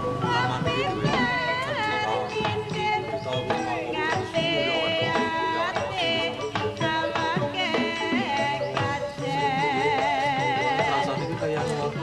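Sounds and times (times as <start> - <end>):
drum strokes: 0.0 - 12.0
wavering melody: 0.0 - 12.0.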